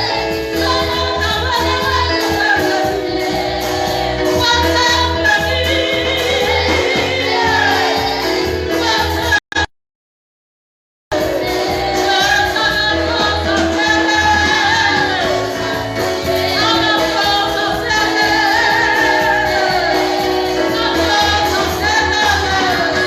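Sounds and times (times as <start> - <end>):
gospel singing with instruments: 0.0 - 9.7, 11.1 - 23.0.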